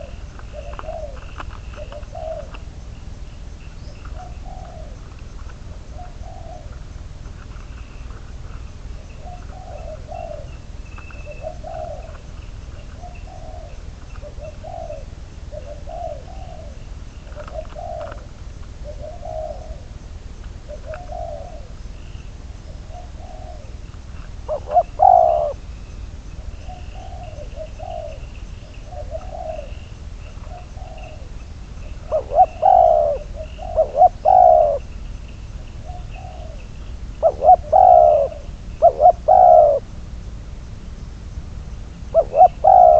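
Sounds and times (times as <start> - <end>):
doves cooing: 0.0 - 40.0, 42.0 - 42.9.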